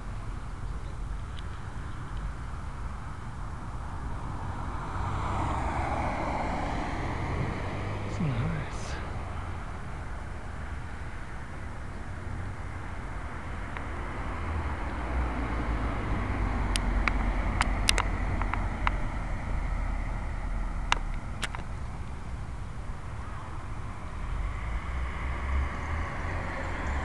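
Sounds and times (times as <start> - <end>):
passing cars rumble: 0.0 - 27.0.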